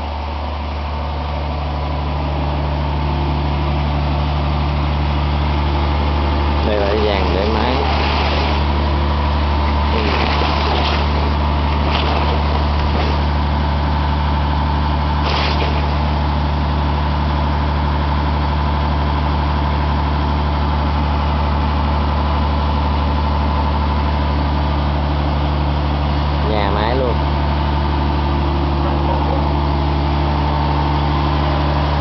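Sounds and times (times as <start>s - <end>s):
stationary engine humming: 0.0s - 32.0s.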